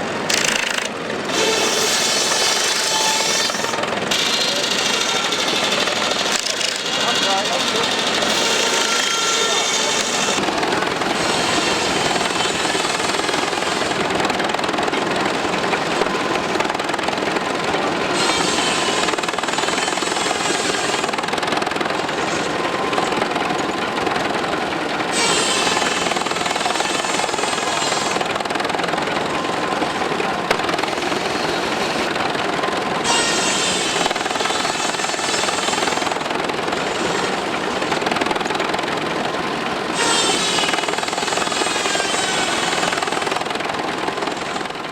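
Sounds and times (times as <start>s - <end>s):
saw blade whining through wood: 0.0s - 43.6s
sawmill machinery clattering: 0.0s - 44.9s.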